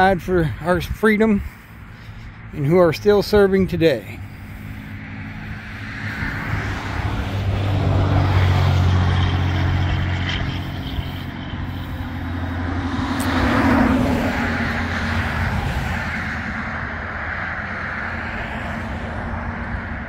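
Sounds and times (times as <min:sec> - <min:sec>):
vehicles passing on a road: 0:00.0 - 0:20.0.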